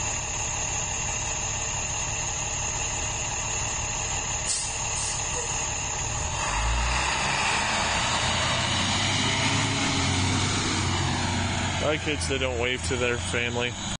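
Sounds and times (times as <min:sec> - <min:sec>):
bus engine idling: 0:00.0 - 0:13.9.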